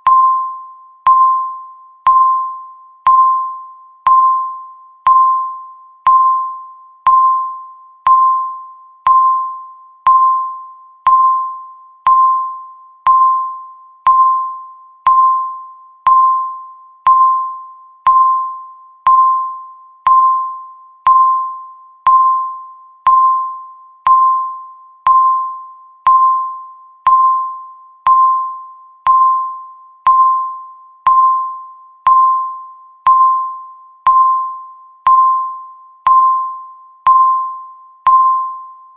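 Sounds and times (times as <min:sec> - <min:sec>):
countdown timer beep: 0:00.0 - 0:38.9.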